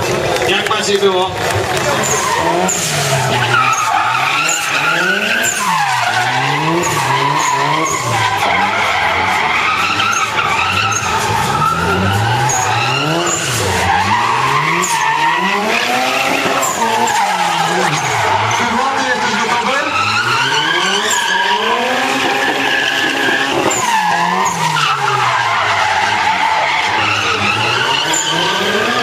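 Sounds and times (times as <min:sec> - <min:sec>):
car engine revving: 0:00.0 - 0:29.0
tyre squeal: 0:01.7 - 0:29.0.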